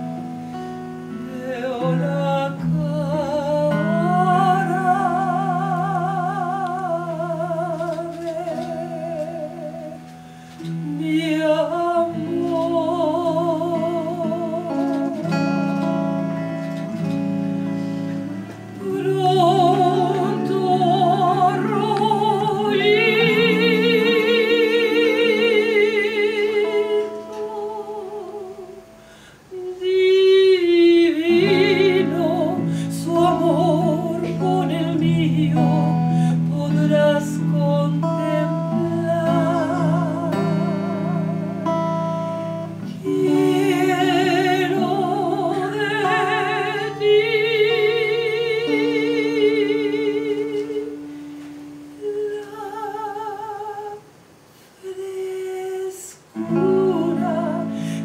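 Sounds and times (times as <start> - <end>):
electric guitar chords: 0.0 - 54.4, 56.2 - 58.0
woman singing with vibrato: 0.0 - 58.0.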